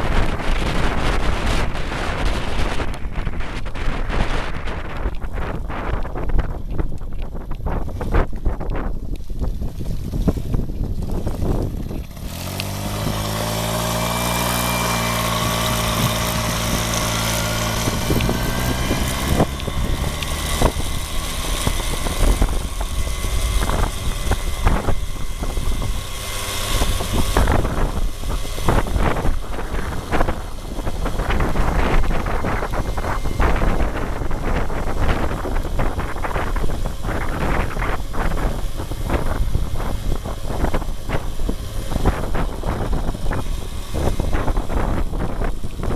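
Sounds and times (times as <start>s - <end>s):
moped engine running: 0.0s - 45.9s
wind buffeting microphone: 0.0s - 45.9s.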